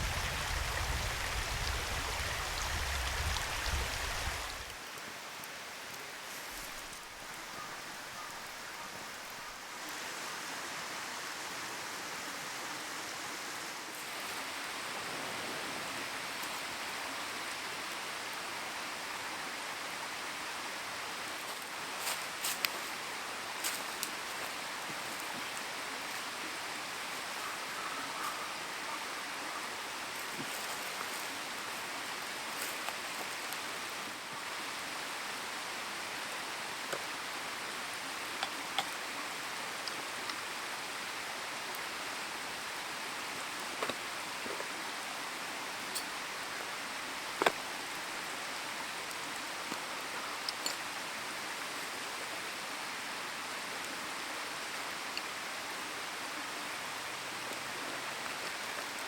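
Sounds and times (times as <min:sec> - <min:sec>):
campfire hissing and crackling: 0:00.0 - 0:59.0.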